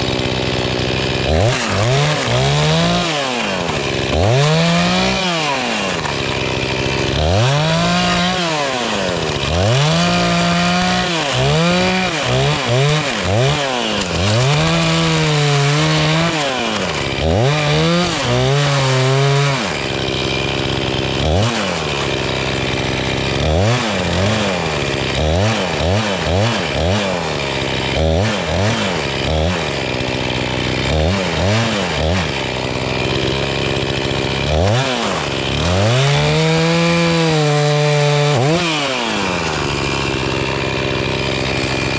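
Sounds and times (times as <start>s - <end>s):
chainsaw revving and cutting: 0.0s - 41.9s.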